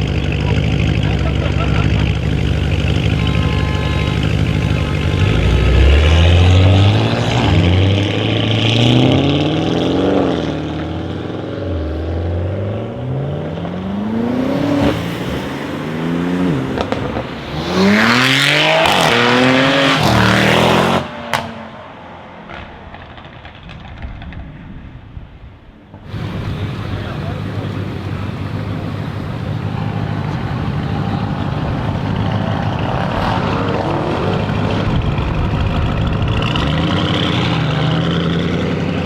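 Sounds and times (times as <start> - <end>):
exhaust cracks: 0.0 - 9.2, 14.5 - 20.6, 22.4 - 39.0
car engine accelerating hard: 0.0 - 21.5, 26.1 - 39.0.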